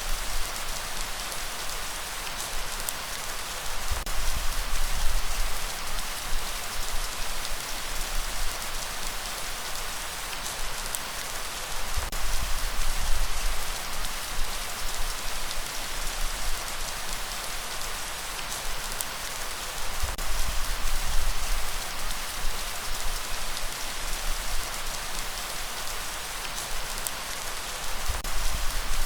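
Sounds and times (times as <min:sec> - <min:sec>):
heavy rain hissing: 0:00.0 - 0:29.0.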